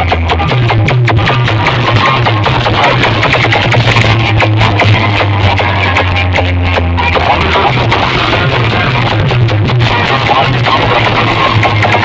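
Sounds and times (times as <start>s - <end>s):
heavy bass beats: 0.0s - 12.0s
loud clashing dance music: 0.0s - 12.0s.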